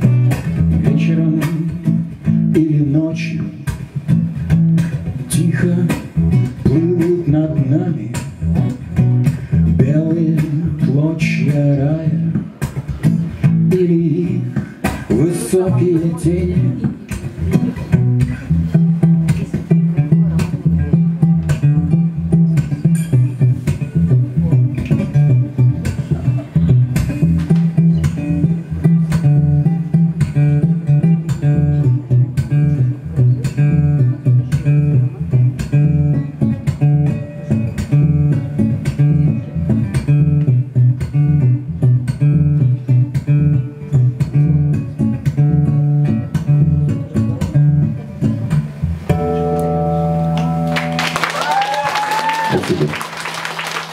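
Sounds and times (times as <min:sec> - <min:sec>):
acoustic guitar plucking: 0:00.0 - 0:51.2
low bass line: 0:00.0 - 0:51.2.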